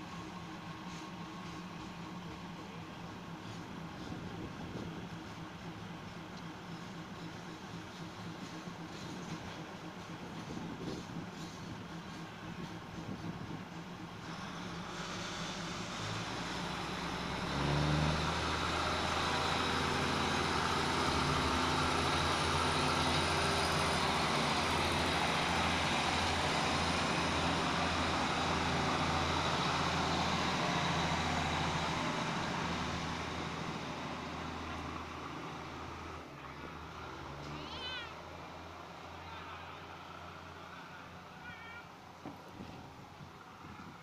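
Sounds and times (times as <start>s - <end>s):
train engine drone: 0.0s - 44.0s
train wheels rumbling on rails: 0.0s - 44.0s.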